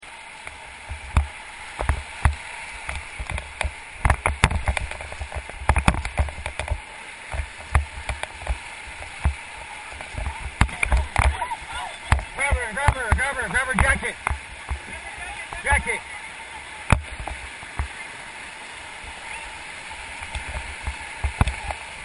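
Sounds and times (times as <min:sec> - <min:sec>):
river water rushing: 0:00.0 - 0:22.0
water splashing: 0:00.0 - 0:22.0
knocks and thumps against raft: 0:00.8 - 0:16.0, 0:16.8 - 0:18.0, 0:20.2 - 0:21.9.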